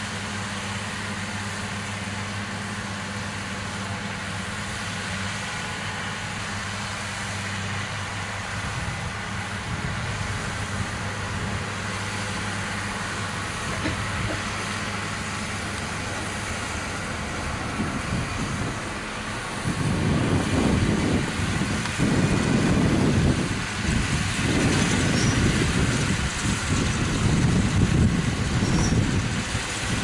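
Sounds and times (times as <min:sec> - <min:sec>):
baler machinery noise: 0:00.0 - 0:30.0
tractor engine running under load: 0:00.0 - 0:30.0.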